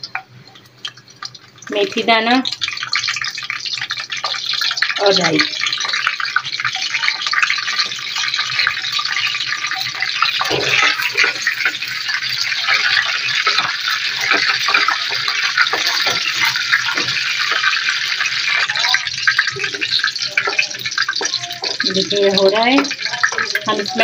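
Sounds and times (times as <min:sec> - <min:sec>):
seeds sizzling in hot oil: 0:00.0 - 0:24.0
spoon stirring oil: 0:00.1 - 0:24.0.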